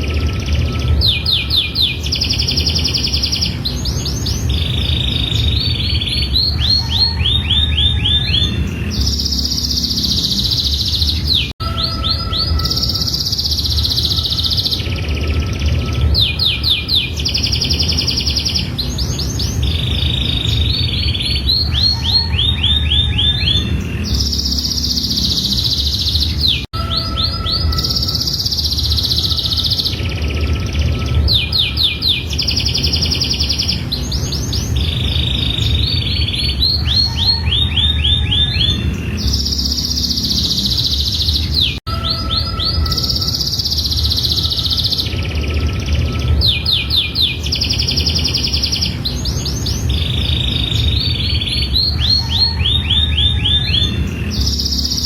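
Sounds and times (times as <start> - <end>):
steady low rumble: 0.0 - 52.4
canary singing trills: 0.0 - 55.0.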